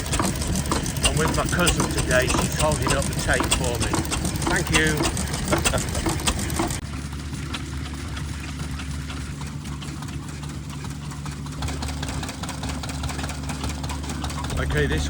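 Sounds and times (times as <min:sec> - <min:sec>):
fast mechanical ticking: 0:00.0 - 0:15.0
stationary engine droning: 0:00.0 - 0:15.0.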